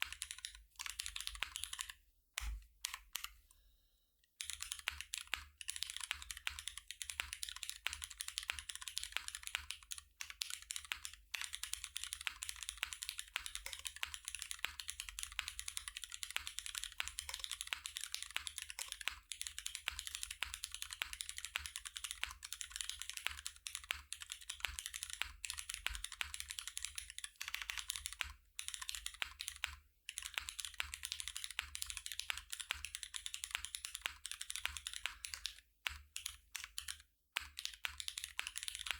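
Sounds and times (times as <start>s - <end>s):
fast mechanical keyboard typing: 0.0s - 1.9s, 4.4s - 38.9s.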